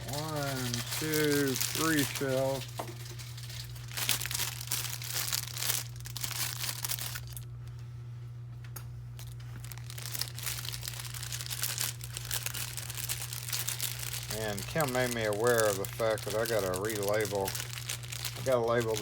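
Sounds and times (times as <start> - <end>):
packaging crinkling and tearing: 0.0 - 7.5, 9.2 - 19.0.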